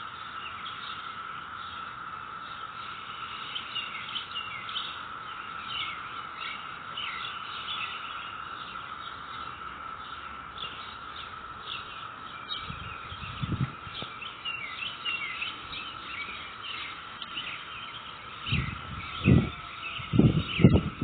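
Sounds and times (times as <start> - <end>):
cicadas droning: 0.0 - 21.0.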